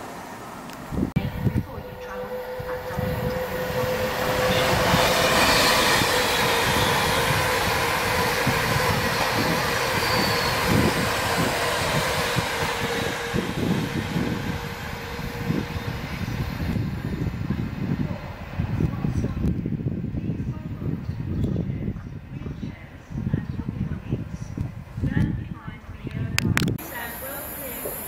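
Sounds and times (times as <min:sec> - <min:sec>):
train passing at speed: 0:00.0 - 0:25.8, 0:26.8 - 0:28.0.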